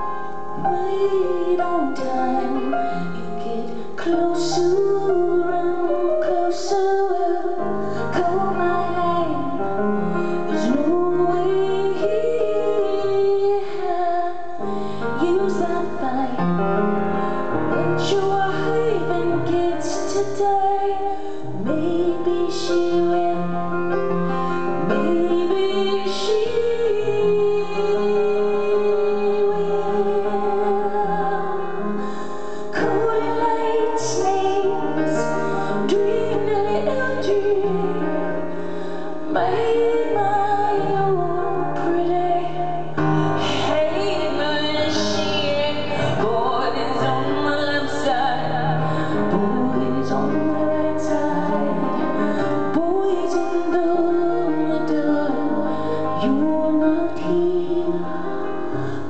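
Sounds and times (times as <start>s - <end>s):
piano chords: 0.0s - 59.0s.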